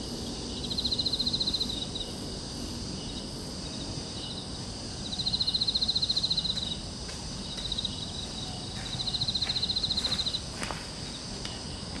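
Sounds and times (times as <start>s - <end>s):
high insect hum: 0.0s - 12.0s
insect trilling: 0.1s - 12.0s.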